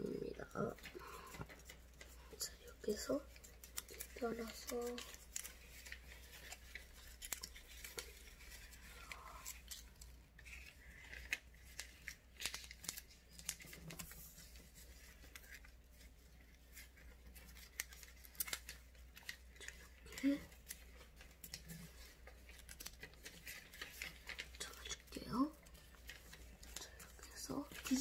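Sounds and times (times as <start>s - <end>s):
paper folding and crackling: 0.0s - 28.0s.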